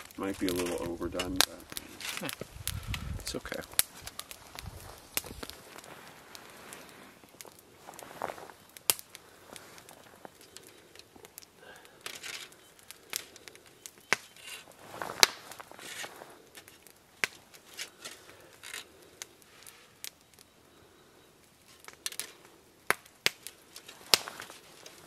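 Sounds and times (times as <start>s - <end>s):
aluminum foil crinkling: 0.0s - 20.3s, 21.6s - 25.0s.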